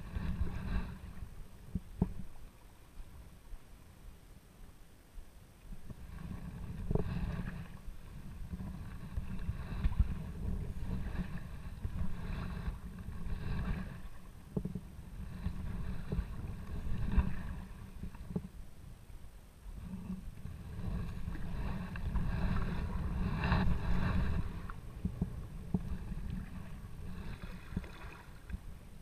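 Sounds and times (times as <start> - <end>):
paddle strokes in water: 0.0 - 4.0, 5.6 - 18.9, 19.6 - 29.0.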